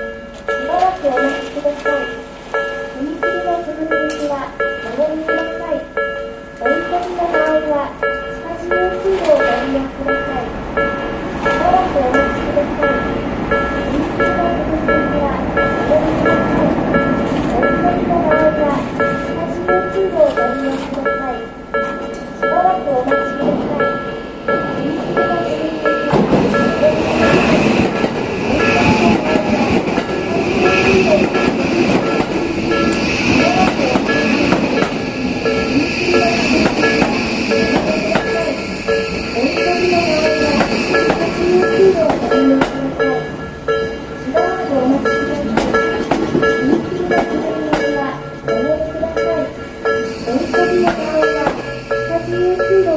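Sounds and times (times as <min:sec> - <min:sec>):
level-crossing warning bell: 0:00.0 - 0:52.9
train wheel and running noise: 0:00.0 - 0:52.9.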